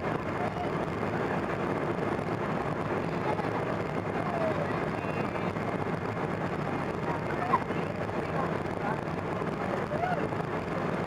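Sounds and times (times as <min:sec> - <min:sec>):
airliner cabin noise: 0:00.0 - 0:11.0.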